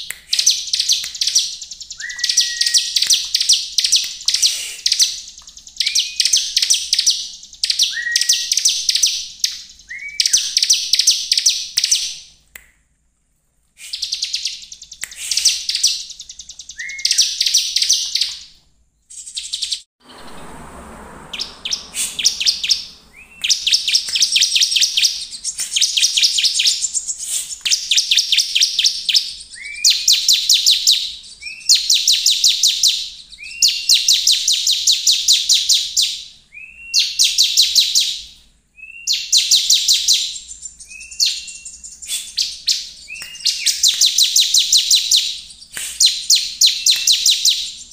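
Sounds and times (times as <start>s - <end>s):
bird singing high chipping notes: 0.3s - 12.2s, 14.0s - 35.8s, 38.8s - 47.9s.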